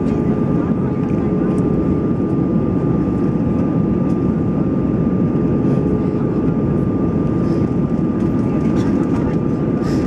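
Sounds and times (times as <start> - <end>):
jet engine roar in cabin: 0.0 - 10.0.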